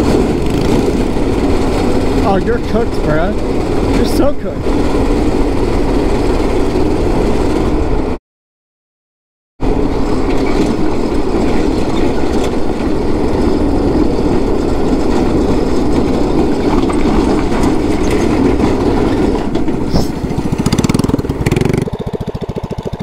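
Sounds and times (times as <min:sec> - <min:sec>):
go-kart engine running: 0:00.0 - 0:08.2, 0:09.6 - 0:23.0
wind rush: 0:00.0 - 0:08.2, 0:09.6 - 0:21.4.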